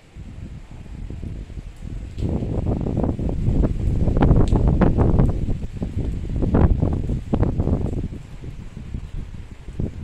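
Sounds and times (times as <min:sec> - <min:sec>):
storm wind gusting on microphone: 0:00.0 - 0:10.0.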